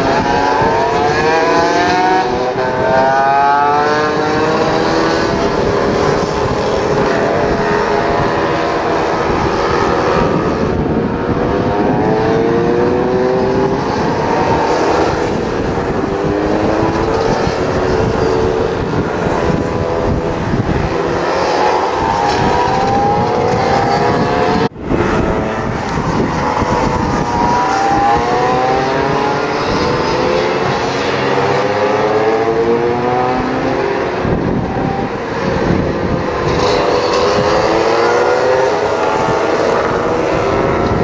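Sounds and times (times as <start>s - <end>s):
scooter engines racing: 0.0s - 41.0s.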